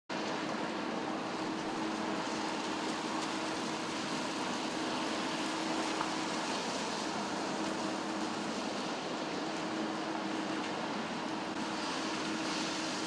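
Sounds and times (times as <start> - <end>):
car tyres swishing on wet road: 0.1 - 13.0
rain falling on street: 0.1 - 13.0.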